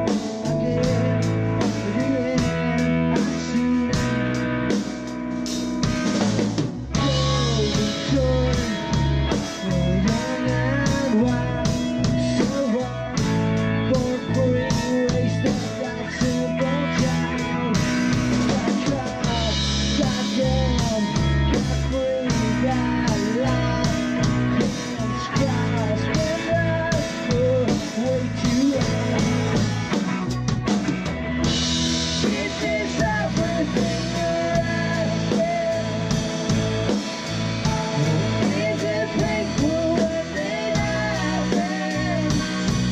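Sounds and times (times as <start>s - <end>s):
rock band playing: 0.0s - 42.9s
lead melody bending in pitch: 7.0s - 42.9s.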